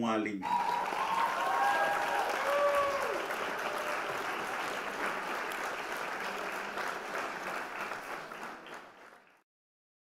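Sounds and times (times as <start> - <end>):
crowd applauding: 0.4 - 9.4.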